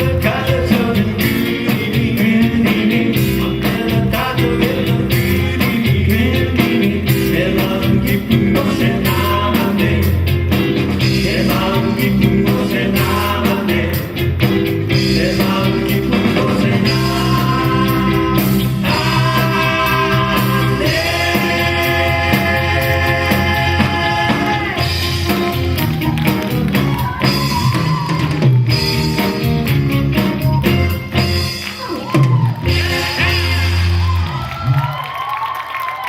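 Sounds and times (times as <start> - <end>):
person singing: 0.0 - 10.4, 11.0 - 14.2, 14.9 - 29.6, 31.8 - 34.4
live rock band playing: 0.0 - 35.2.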